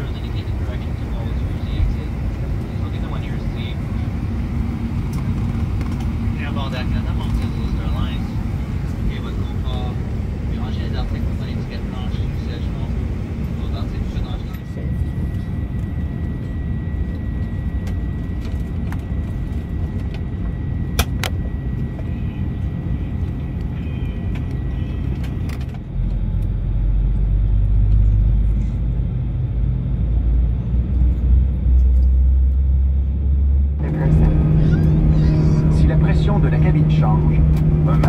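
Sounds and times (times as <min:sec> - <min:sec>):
jet engines rumbling: 0:00.0 - 0:38.0
thin steady whine: 0:00.0 - 0:38.0.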